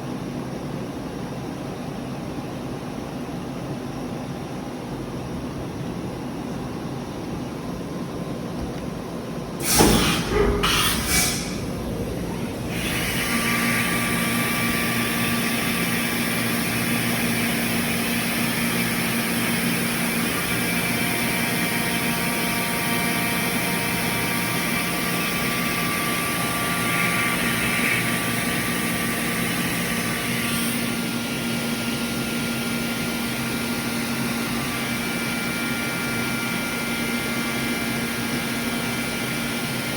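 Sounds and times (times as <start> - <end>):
machine whirring with steady tones: 3.6 - 39.9.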